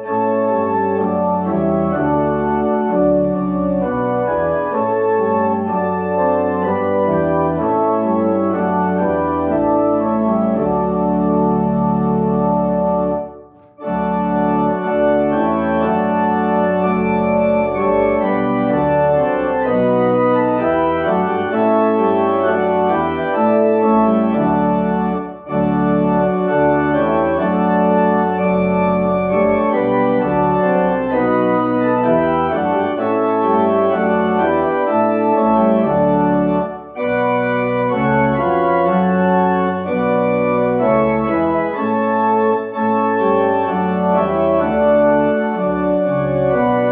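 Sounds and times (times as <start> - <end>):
organ sustained chords: 0.0 - 46.9.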